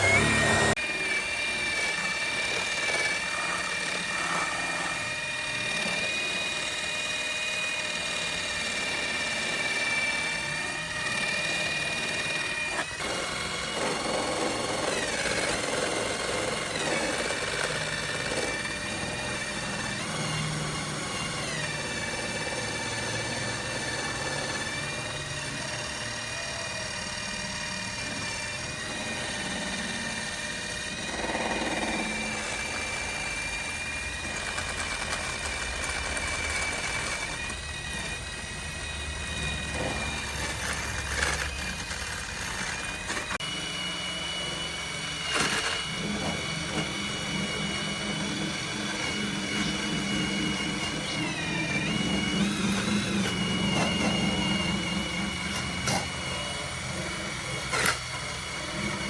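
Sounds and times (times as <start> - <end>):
electric power tool whining: 0.0 - 59.0.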